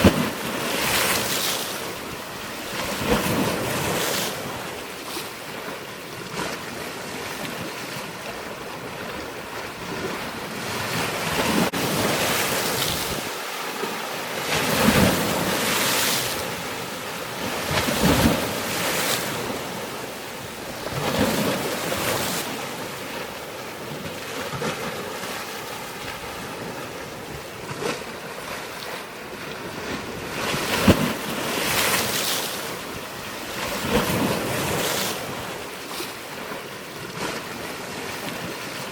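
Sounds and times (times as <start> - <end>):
rushing water: 0.0 - 37.6.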